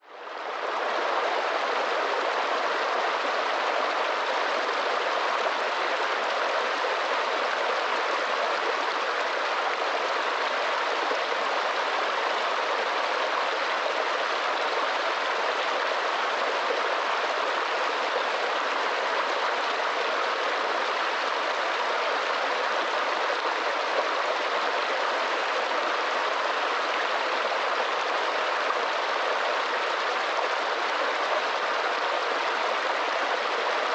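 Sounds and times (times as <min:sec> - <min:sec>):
stream running over rocks: 0:00.0 - 0:33.9.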